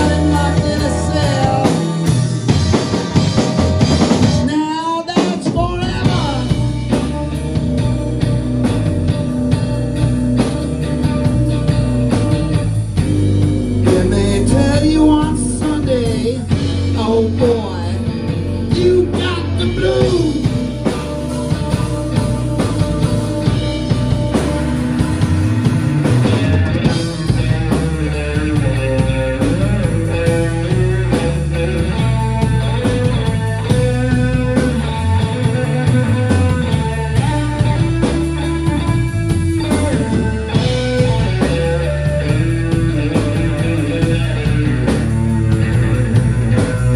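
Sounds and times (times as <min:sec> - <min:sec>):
blues-rock band playing live: 0:00.0 - 0:46.9
electric guitar lead: 0:00.0 - 0:46.9.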